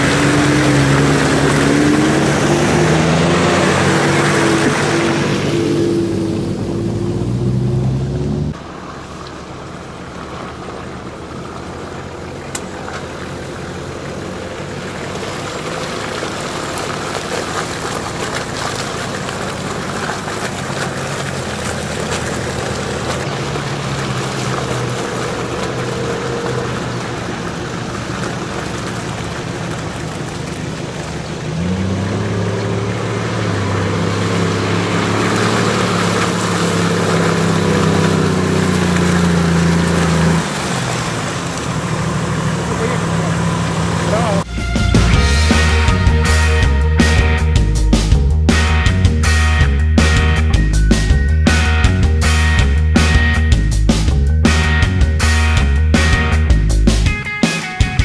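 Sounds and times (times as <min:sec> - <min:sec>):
off-road vehicle engines running: 0:00.0 - 0:58.0.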